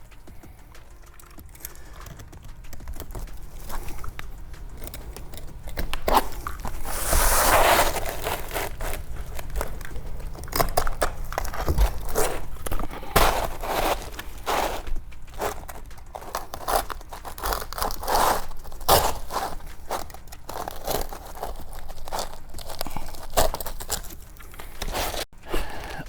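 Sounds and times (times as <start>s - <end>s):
shingles scraping and crinkling: 0.0s - 25.3s.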